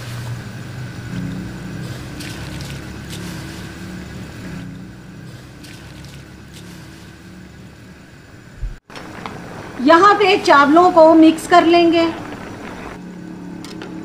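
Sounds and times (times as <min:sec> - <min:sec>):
stock boiling in a pot: 0:00.0 - 0:14.0.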